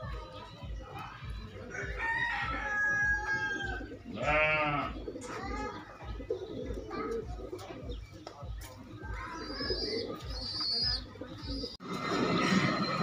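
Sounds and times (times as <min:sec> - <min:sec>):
drawn-out pigeon call: 0:00.0 - 0:13.0
pigeons cooing: 0:00.2 - 0:13.0.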